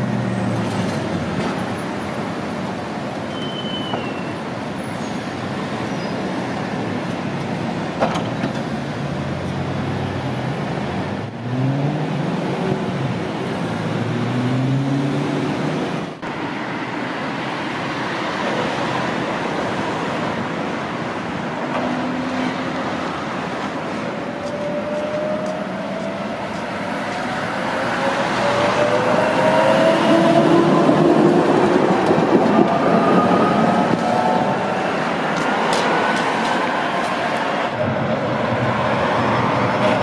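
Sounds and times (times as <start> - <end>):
street traffic: 0.0 - 40.0.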